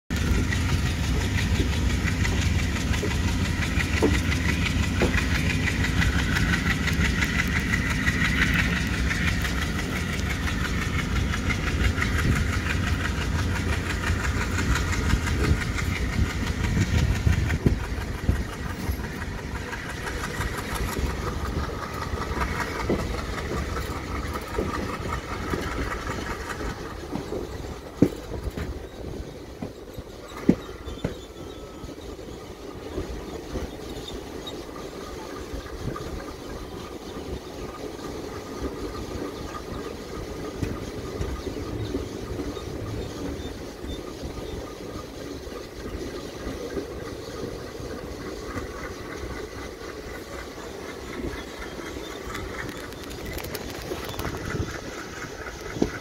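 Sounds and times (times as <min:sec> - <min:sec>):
train carriages rumbling and rattling: 0:00.1 - 0:56.0
train wheel clicks on rails: 0:00.1 - 0:56.0.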